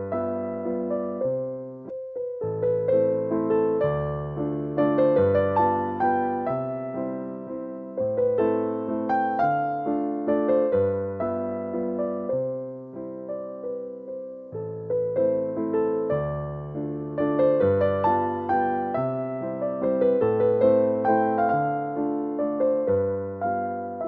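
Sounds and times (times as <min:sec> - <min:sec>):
solo piano waltz: 0:00.0 - 0:24.0.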